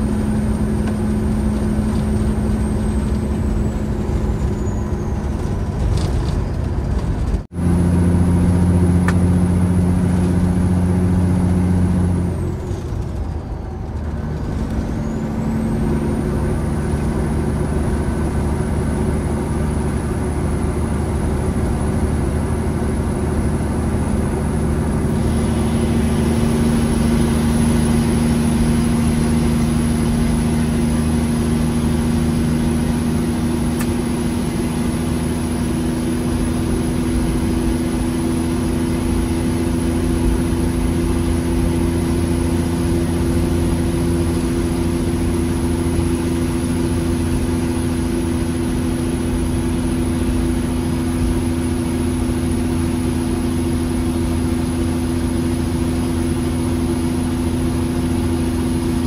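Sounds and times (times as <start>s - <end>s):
road noise inside cab: 0.0s - 59.0s
truck diesel engine: 0.0s - 59.0s
high whine: 7.5s - 59.0s.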